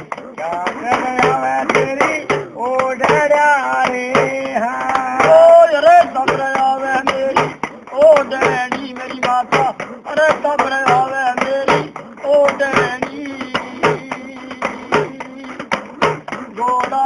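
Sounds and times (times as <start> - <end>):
man singing: 0.0 - 17.0
percussive beat: 0.0 - 17.0.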